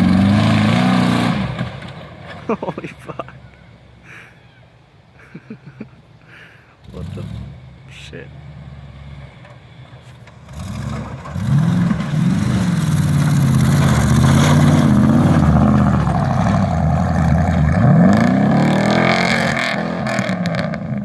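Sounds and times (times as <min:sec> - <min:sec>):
truck engine revving: 0:00.0 - 0:03.4, 0:06.8 - 0:21.0.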